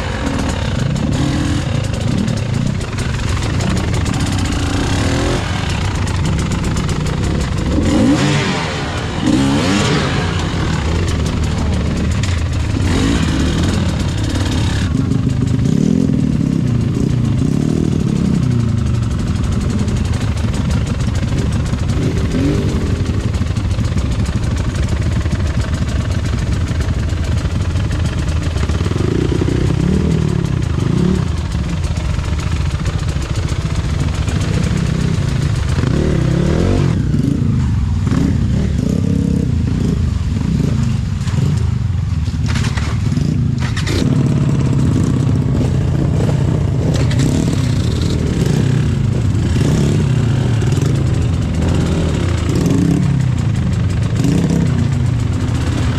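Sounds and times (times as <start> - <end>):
motorbike engine revving: 0.0 - 55.9.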